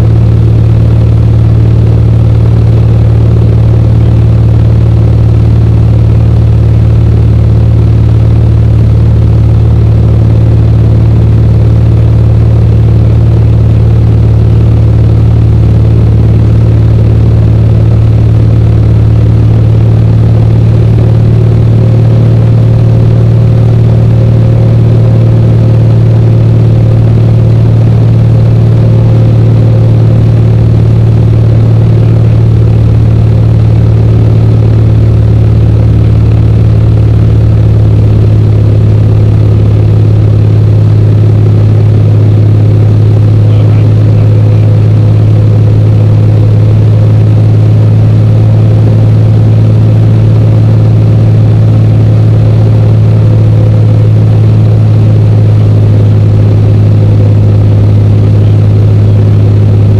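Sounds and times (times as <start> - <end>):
propeller aircraft engine droning: 0.0 - 59.9.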